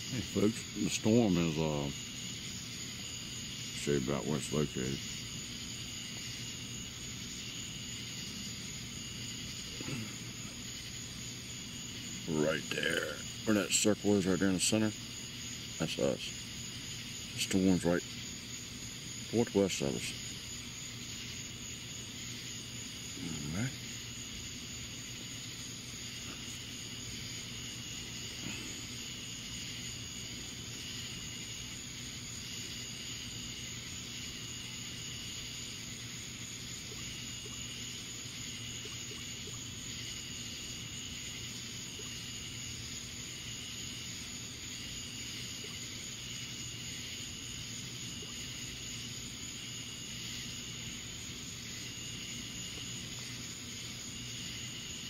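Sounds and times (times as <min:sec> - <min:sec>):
insects chirping: 0:00.0 - 0:55.0
steady outdoor hiss: 0:00.0 - 0:55.0.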